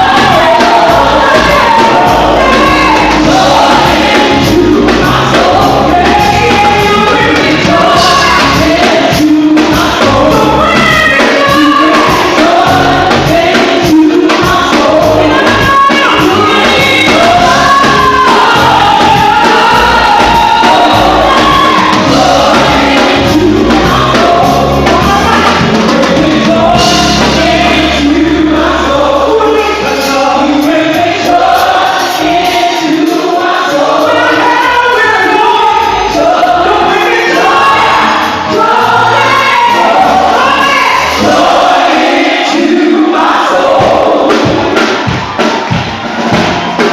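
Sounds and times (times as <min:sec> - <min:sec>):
gospel choir singing in harmony: 0:00.0 - 0:46.9
live band with bass: 0:00.0 - 0:46.9.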